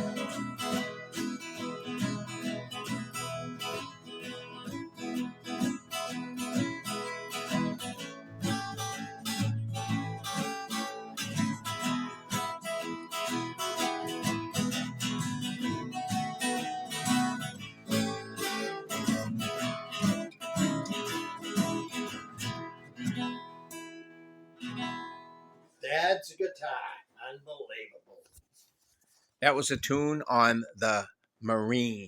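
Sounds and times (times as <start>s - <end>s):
acoustic guitar strummed and picked: 0.0s - 25.8s.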